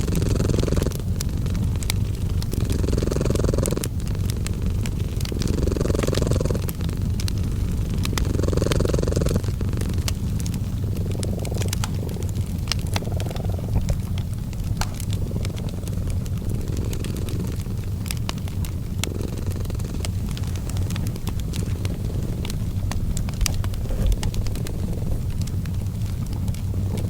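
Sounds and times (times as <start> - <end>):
cat purring: 0.0 - 27.0
wood fire crackling: 0.0 - 27.0.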